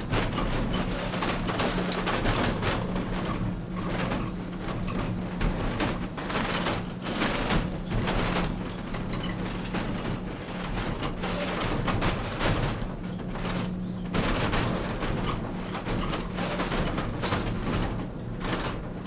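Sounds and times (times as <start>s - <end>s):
wheels clattering on rails: 0.0s - 19.0s.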